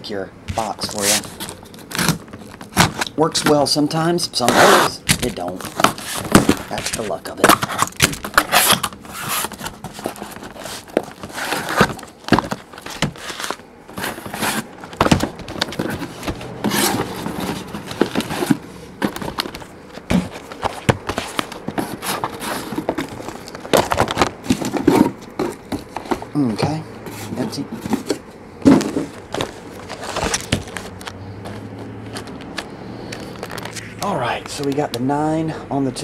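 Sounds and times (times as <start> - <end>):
cardboard boxes knocking and scraping: 0.5 - 3.7, 4.4 - 30.9.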